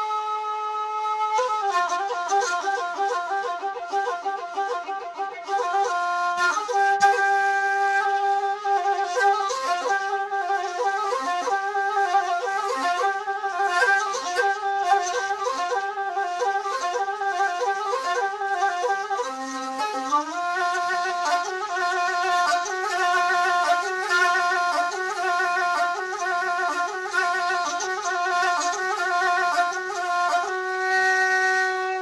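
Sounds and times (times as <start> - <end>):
wooden flute melody: 0.0 - 32.0.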